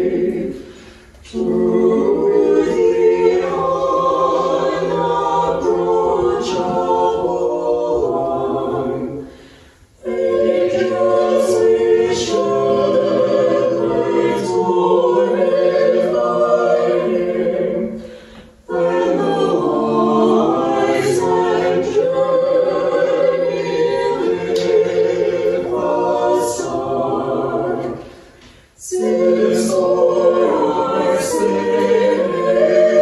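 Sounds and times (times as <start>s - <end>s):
choir singing a cappella hymn: 0.0s - 33.0s.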